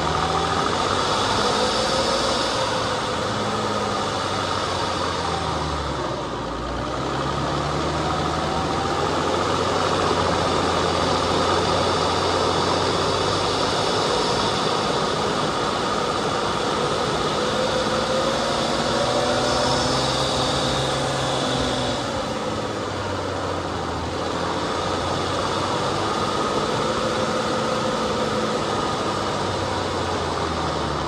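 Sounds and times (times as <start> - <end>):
off-road vehicle engine: 0.0 - 31.0.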